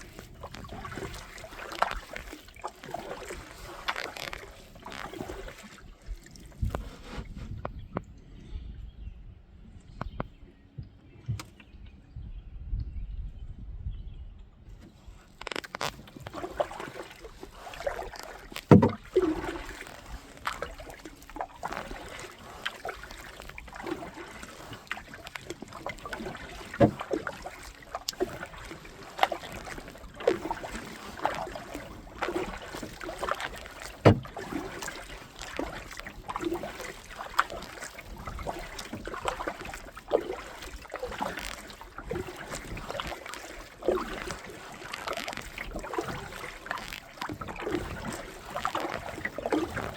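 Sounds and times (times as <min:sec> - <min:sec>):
paddle splashing in water: 0:00.0 - 0:07.6, 0:14.8 - 0:49.9.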